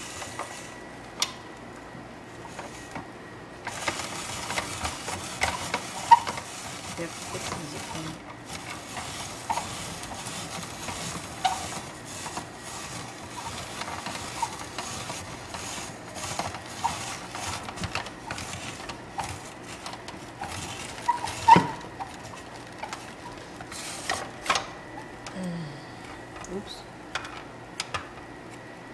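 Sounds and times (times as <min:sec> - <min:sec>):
spiralizer crunching vegetable: 0:00.0 - 0:01.6, 0:02.3 - 0:25.4.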